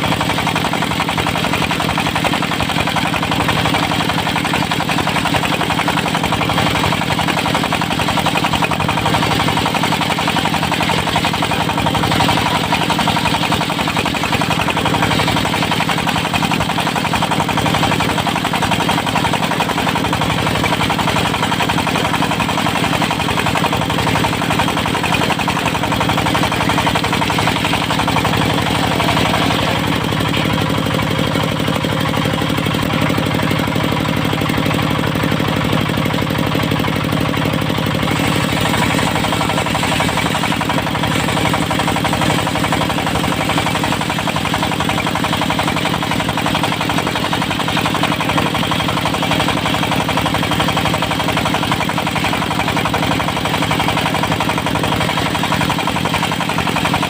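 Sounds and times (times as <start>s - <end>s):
diesel sawmill engine running: 0.0s - 57.0s.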